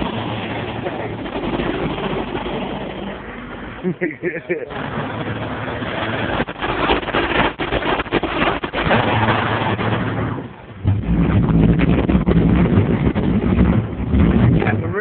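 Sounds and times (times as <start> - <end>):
distorted subwoofer bass: 0.0 - 15.0.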